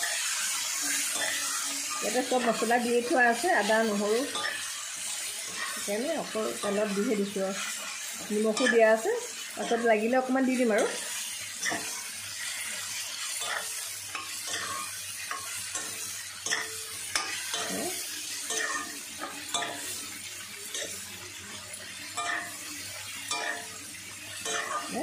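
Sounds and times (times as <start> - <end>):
meat sizzling in hot oil: 0.0 - 25.0
metal spatula scraping a pan: 0.0 - 25.0.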